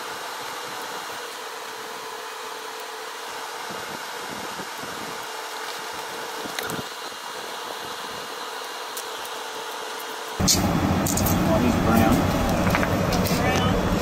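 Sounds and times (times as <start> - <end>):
machine fan whirring: 0.0 - 14.0.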